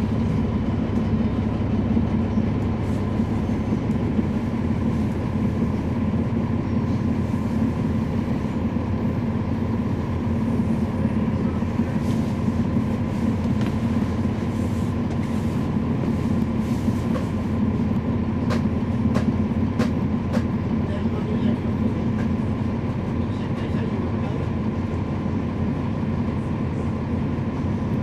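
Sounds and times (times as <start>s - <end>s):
bus diesel engine humming: 0.0s - 28.0s.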